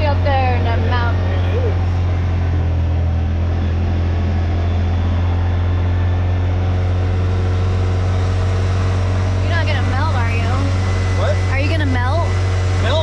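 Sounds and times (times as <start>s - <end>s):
road noise: 0.0s - 13.0s
vehicle engine drone: 0.0s - 13.0s.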